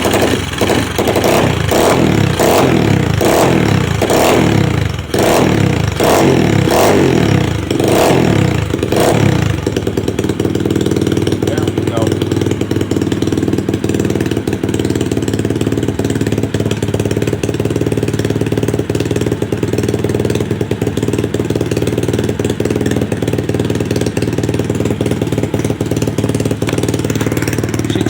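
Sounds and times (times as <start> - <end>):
small motorcycle engine idling: 0.0 - 28.0.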